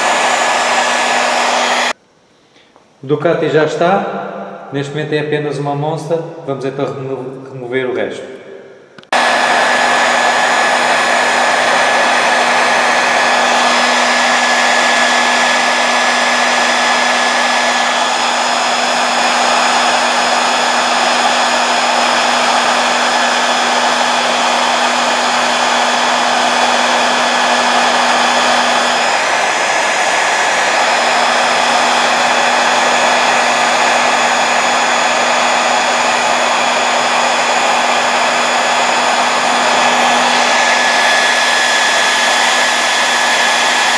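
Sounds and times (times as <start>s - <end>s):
hair dryer running: 0.0s - 2.0s, 9.0s - 43.9s.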